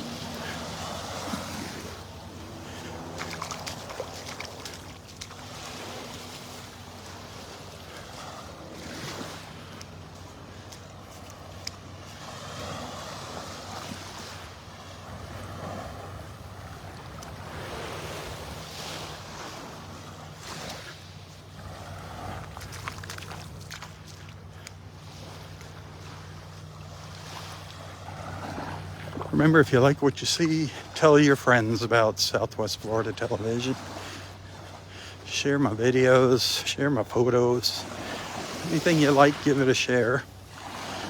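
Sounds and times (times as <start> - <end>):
surf washing onto beach: 0.0 - 24.1, 25.0 - 41.0
low steady hum: 0.0 - 40.8.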